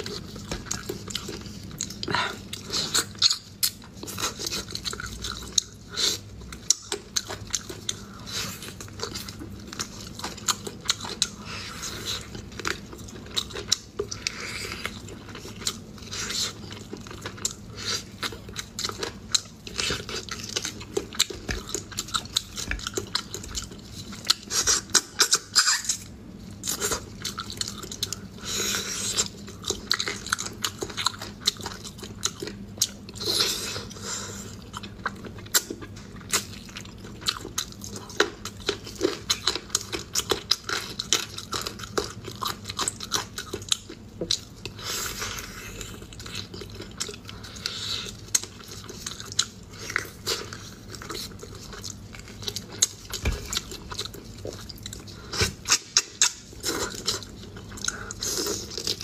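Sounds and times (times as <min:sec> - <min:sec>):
chewing and biting meat: 0:00.0 - 0:59.0.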